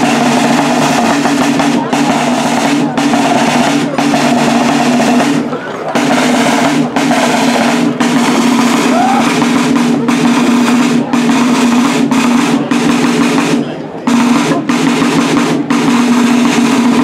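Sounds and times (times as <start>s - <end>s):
side drum rolls: 0.0s - 17.0s.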